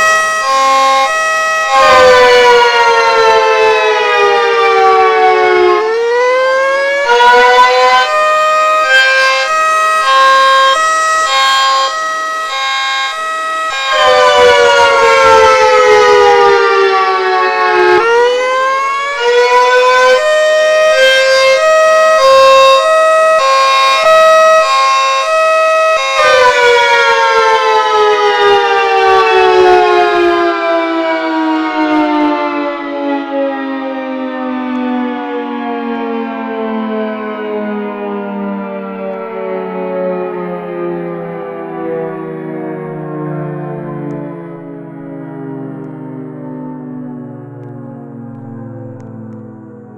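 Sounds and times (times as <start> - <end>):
warning siren: 0.0 - 49.9.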